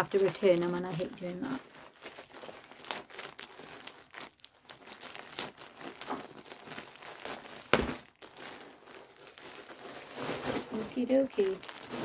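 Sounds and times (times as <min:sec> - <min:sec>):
plastic bag crinkling and tearing: 0:00.0 - 0:12.0
sharp loud plastic crackle: 0:00.0 - 0:12.0.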